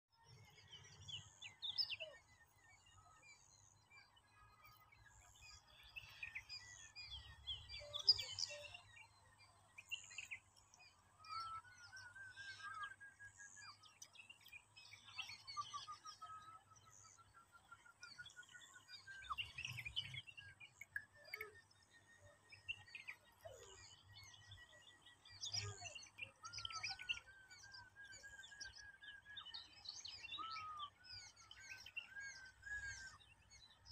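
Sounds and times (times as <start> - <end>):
birds chirping: 0.4 - 33.9.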